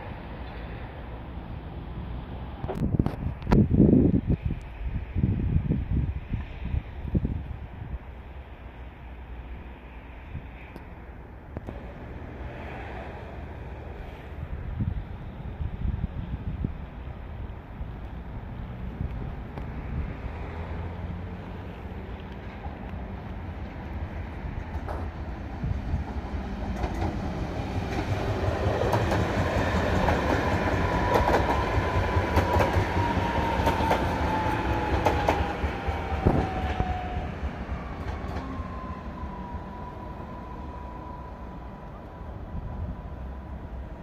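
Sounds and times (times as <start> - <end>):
electric train rumbling past: 0.0 - 44.0.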